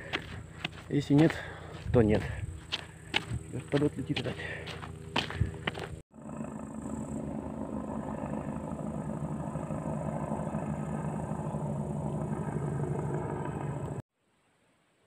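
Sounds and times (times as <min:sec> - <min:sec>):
helicopter flying past: 0:00.0 - 0:14.0.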